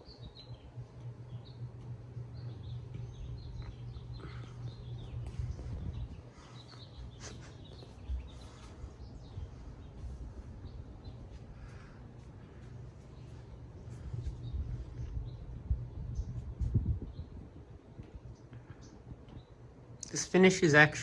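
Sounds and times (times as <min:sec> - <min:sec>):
birds chirping: 0:00.0 - 0:21.0
ceiling fan motor humming: 0:00.0 - 0:21.0.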